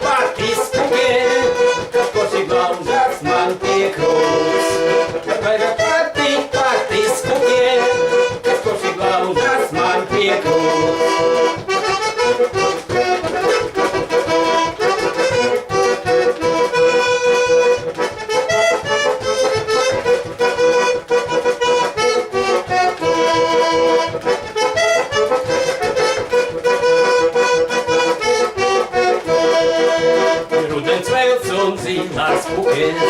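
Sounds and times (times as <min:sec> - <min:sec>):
button accordion folk melody: 0:00.0 - 0:33.0.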